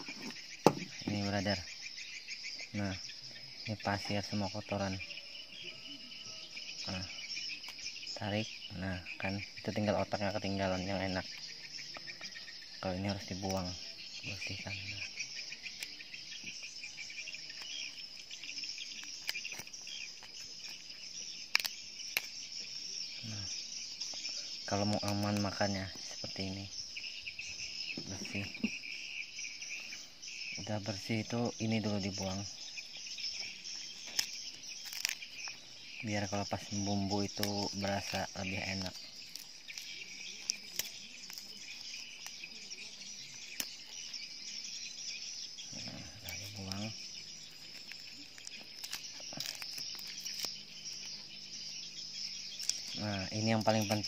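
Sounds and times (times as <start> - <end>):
insect chirring: 0.0 - 54.0.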